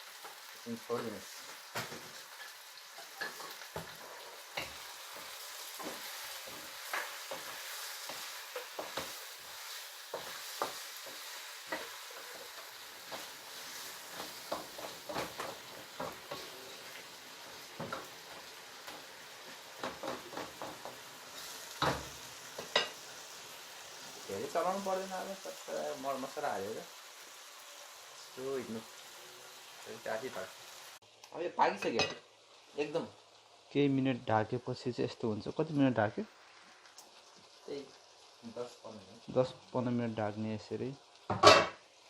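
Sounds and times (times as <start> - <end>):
onions sizzling in oil: 0.0 - 42.0.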